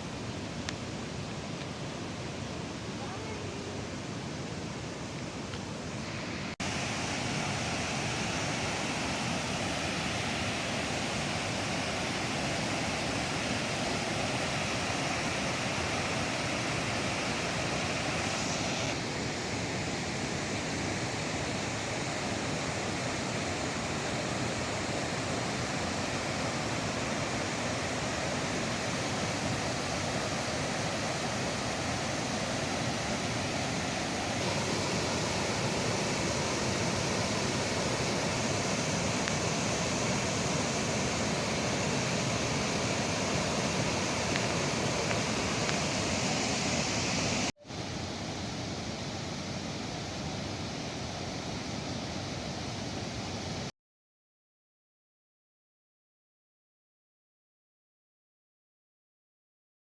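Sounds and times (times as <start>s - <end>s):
waterfall roaring: 1.6s - 53.7s.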